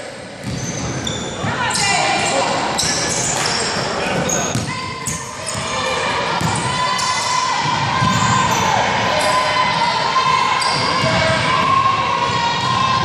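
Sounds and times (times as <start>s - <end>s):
spectators' voices: 0.0s - 13.0s.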